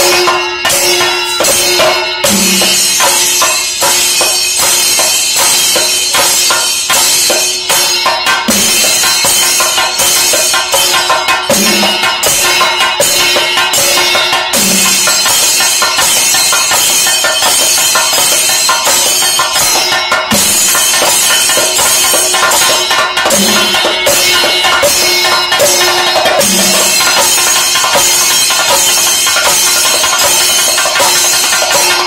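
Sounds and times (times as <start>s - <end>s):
drums beaten fast with sticks: 0.0s - 32.0s
hand cymbals clashing: 0.0s - 32.0s.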